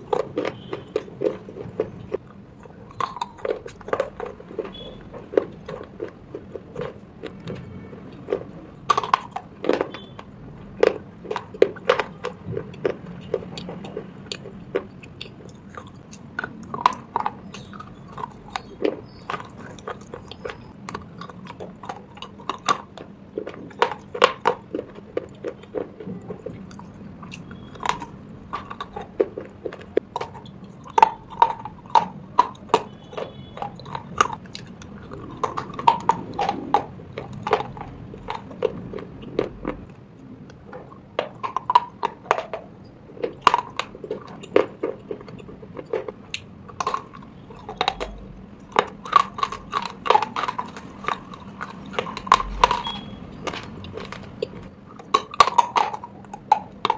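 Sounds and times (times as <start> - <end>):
crisp crunching and chewing: 0.0 - 56.9.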